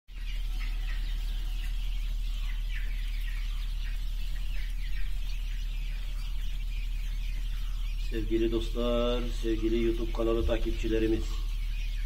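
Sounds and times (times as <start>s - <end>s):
chicks peeping: 0.1s - 12.0s
steady low hum: 0.1s - 12.0s.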